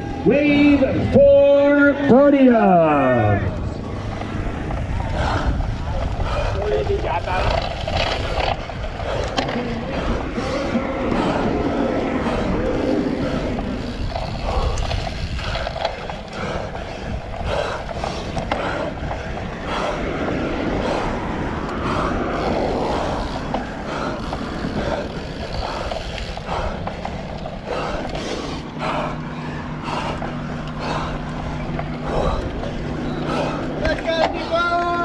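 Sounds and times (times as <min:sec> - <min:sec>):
low steady hum: 0:00.0 - 0:35.0
steady rushing noise: 0:00.0 - 0:35.0
bike rattling over rough ground: 0:02.9 - 0:35.0.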